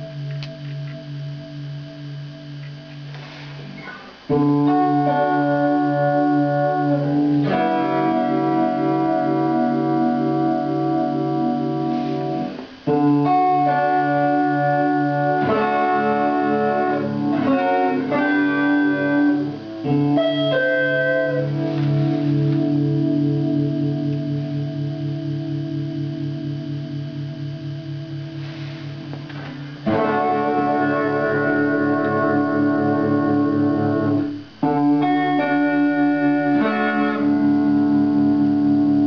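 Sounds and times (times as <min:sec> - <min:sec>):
electric guitar chords throbbing: 0:00.0 - 0:39.0.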